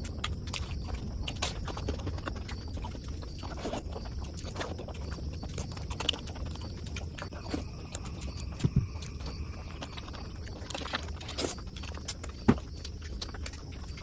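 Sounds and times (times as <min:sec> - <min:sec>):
low steady hum: 0:00.0 - 0:14.0
wet chewing and lip-smacking: 0:00.0 - 0:14.0.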